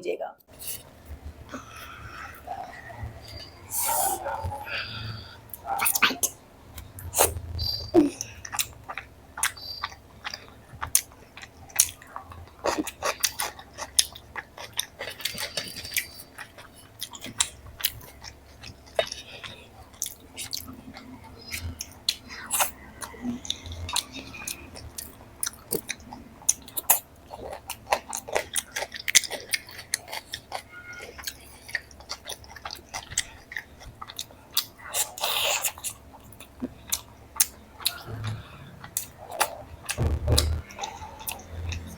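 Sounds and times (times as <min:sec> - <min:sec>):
person chewing food: 0:00.5 - 0:41.9.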